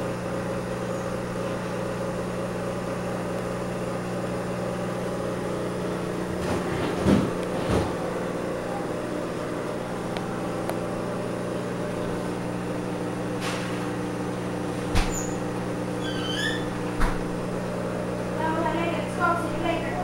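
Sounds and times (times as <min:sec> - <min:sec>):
aquarium pump humming: 0:00.0 - 0:20.0.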